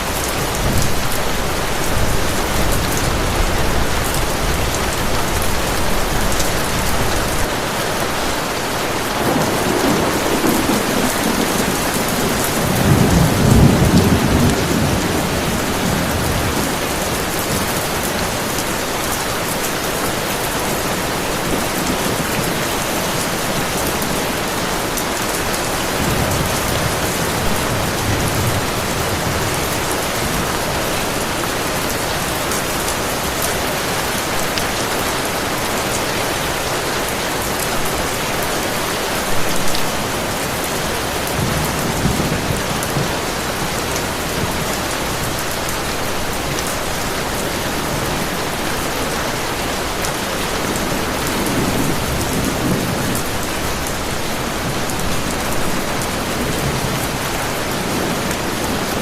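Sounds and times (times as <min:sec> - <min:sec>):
heavy rain falling: 0:00.0 - 0:59.0
low thunder rumbling: 0:09.0 - 0:19.8, 0:20.4 - 0:35.9, 0:37.5 - 0:59.0.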